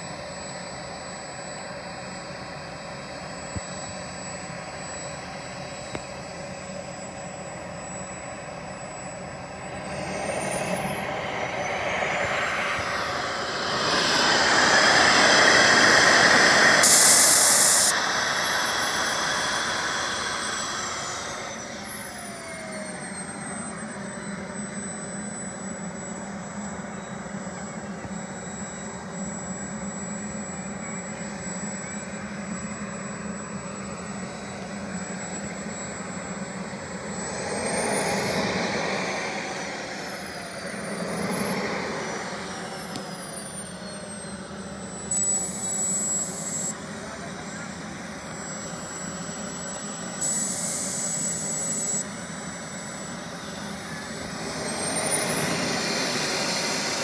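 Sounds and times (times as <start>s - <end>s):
model jet turbine whine: 0.0s - 57.0s.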